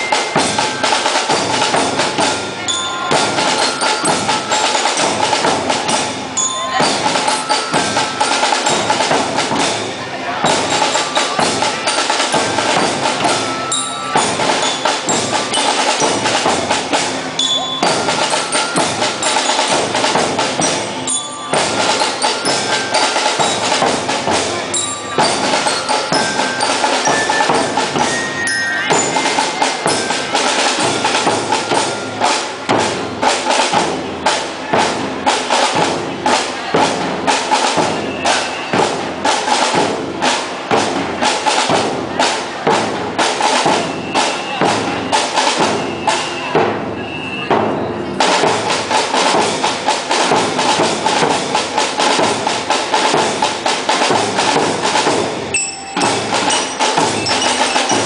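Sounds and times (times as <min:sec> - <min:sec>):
bell-like mallet notes: 0:00.0 - 0:36.8, 0:43.5 - 0:58.0
marching drum line: 0:00.0 - 0:58.0.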